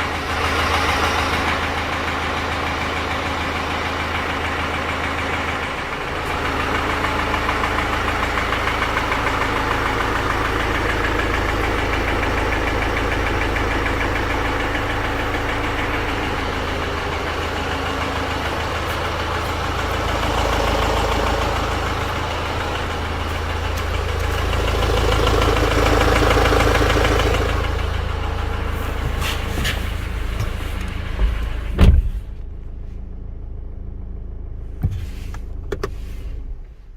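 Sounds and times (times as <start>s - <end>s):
metallic knocking in engine: 0.0s - 31.8s
diesel engine running: 0.0s - 36.9s.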